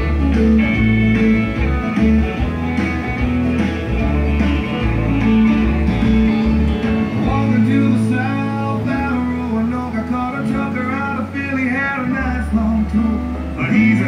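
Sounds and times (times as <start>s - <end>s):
guitar music with bass: 0.0s - 14.0s.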